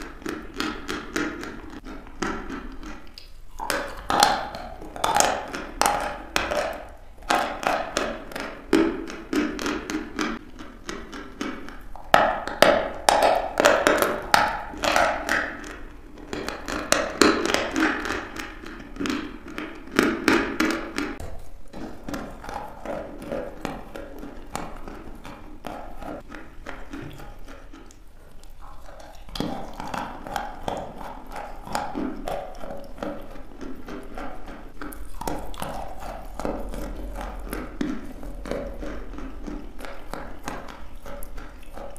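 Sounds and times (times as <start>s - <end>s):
chalk crunching in mouth: 0.0s - 41.9s
soft pasty chewing: 0.0s - 41.9s.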